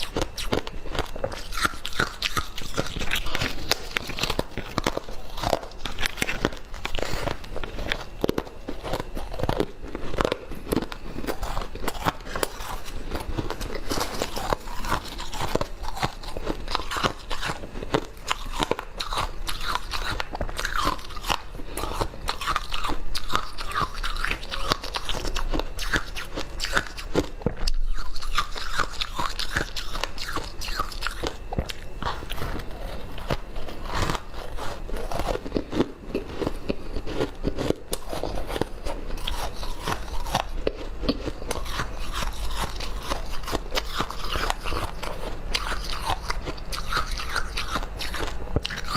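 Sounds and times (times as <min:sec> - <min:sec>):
ice crunching and chewing: 0:00.0 - 0:48.9.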